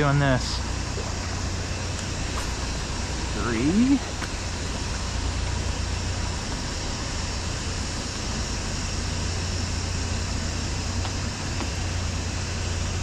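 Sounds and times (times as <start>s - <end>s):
low hum: 0.0s - 13.0s
steady rushing noise: 0.0s - 13.0s.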